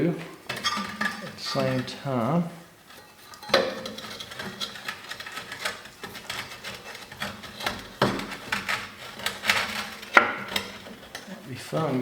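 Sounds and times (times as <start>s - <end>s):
metal parts clinking and knocking: 0.5s - 2.0s, 3.0s - 11.4s.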